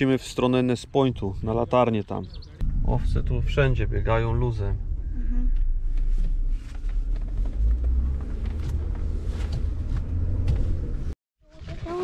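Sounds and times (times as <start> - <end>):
car interior engine and road rumble: 0.0 - 11.2.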